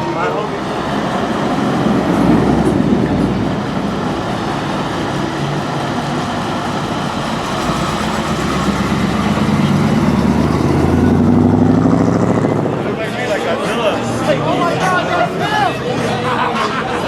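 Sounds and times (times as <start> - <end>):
car engine rumbling: 0.0 - 16.6
noisy rushing: 0.0 - 17.0.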